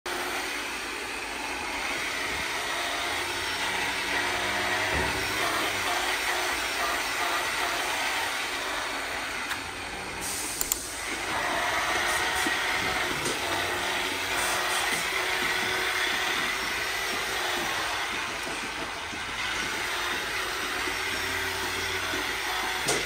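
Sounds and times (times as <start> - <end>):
milking machinery hiss and hum: 0.1 - 23.0.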